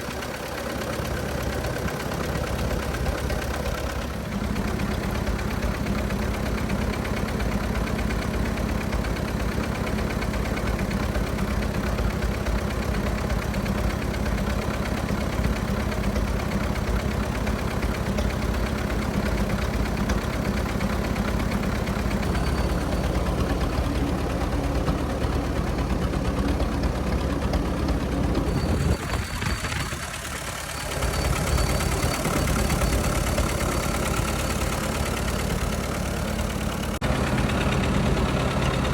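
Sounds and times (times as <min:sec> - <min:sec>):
tractor engine fast idle: 0:00.0 - 0:38.9.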